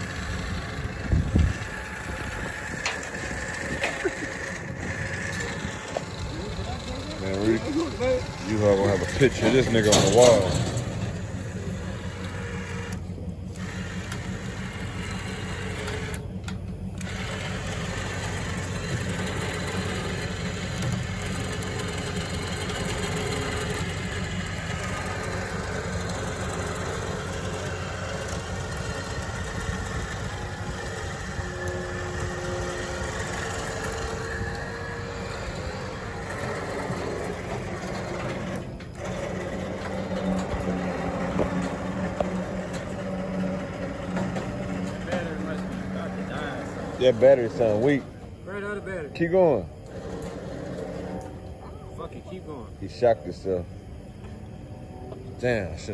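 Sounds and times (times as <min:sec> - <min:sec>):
electric winch whirring: 0:00.0 - 0:55.9
low steady hum: 0:00.0 - 0:55.9.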